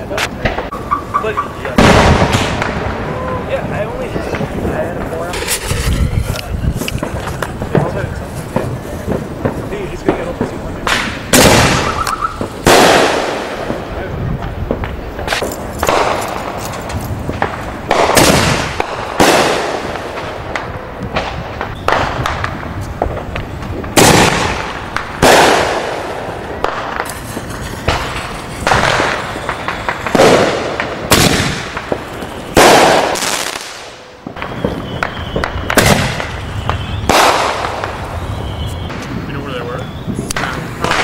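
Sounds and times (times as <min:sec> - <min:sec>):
fireworks banging: 0:00.0 - 0:41.0.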